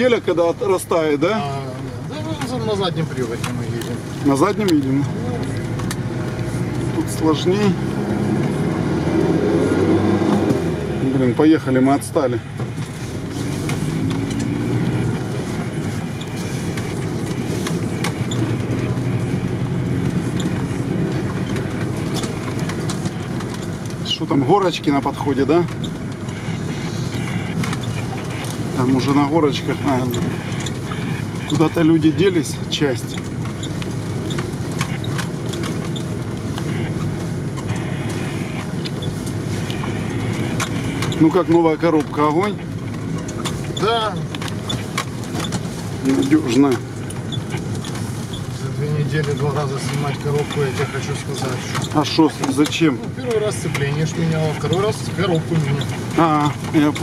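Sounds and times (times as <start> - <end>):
vehicle engine drone: 0.0 - 57.0.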